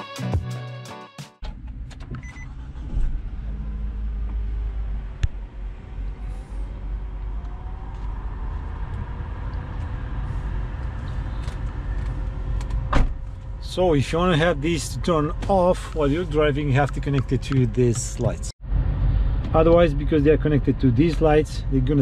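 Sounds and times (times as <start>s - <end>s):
low engine rumble: 1.4s - 22.0s.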